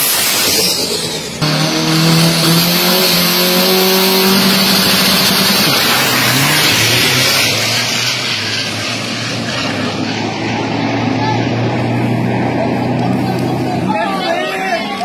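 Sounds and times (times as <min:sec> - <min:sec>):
dragster engine revving: 0:00.0 - 0:14.0.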